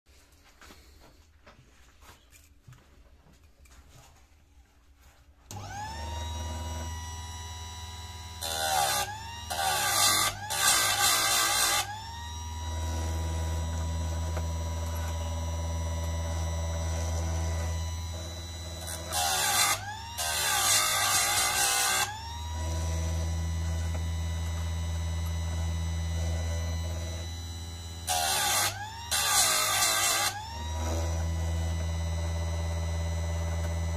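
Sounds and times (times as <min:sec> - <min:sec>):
electric motor humming: 0:05.5 - 0:33.9.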